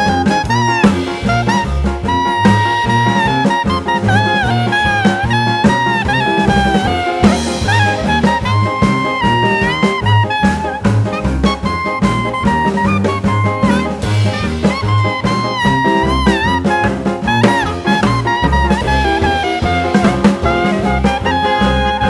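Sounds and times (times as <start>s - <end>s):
upbeat swing jazz: 0.0s - 22.0s.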